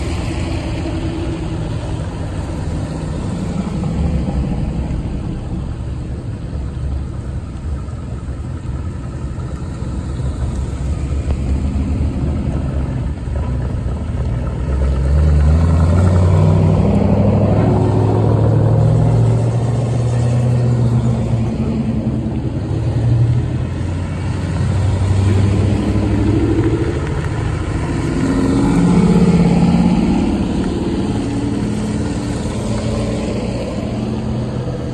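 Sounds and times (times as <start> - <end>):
cars driving slowly past: 0.0 - 34.9
engines revving lightly: 0.0 - 34.9.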